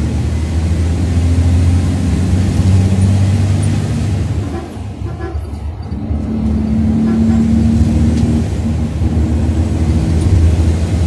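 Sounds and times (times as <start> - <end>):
diesel engine low drone: 0.0 - 11.0.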